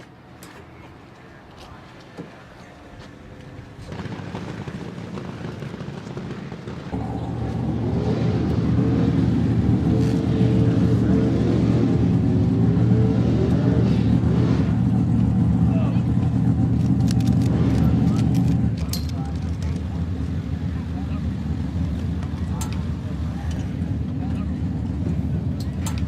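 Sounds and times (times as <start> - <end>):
vehicle engine running: 3.1 - 26.0.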